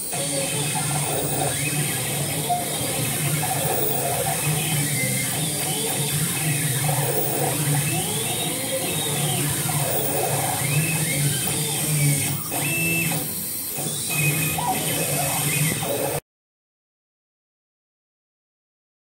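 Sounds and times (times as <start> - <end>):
stepper motors whining: 0.0 - 16.2.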